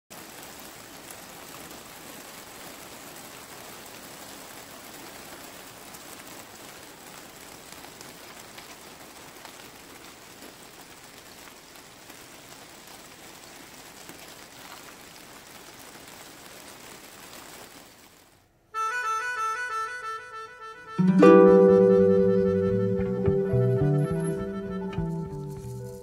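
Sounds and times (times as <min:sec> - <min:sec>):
light rain falling: 0:00.1 - 0:26.0.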